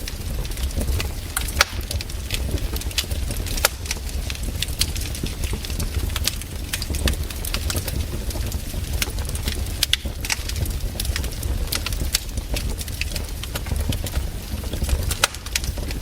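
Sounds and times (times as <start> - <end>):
campfire crackling and popping: 0.0 - 16.0
low rumble of fire: 0.0 - 16.0.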